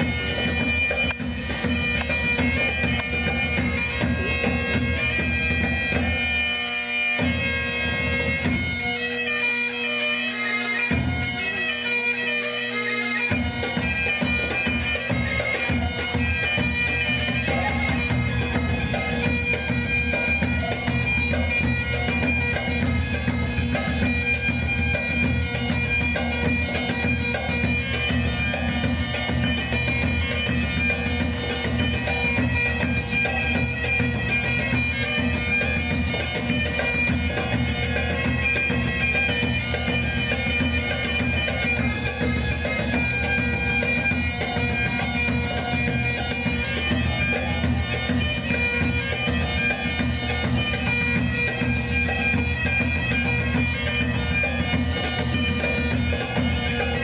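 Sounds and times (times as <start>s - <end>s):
bagpipe chanter melody: 0.0s - 57.0s
bagpipe drone: 0.0s - 57.0s.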